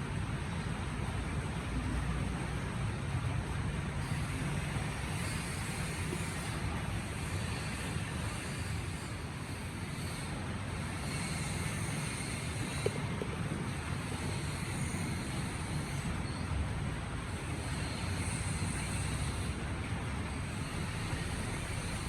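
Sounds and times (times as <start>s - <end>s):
low rumble and hiss: 0.0s - 22.0s.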